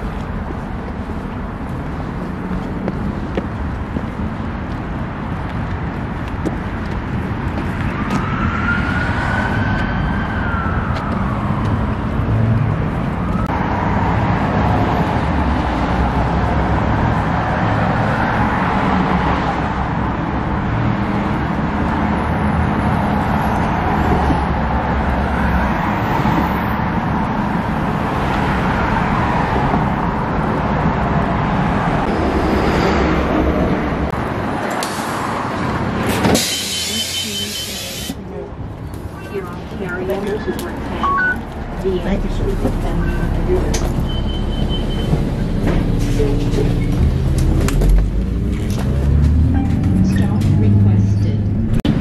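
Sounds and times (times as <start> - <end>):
cars passing on a road: 0.0 - 52.0.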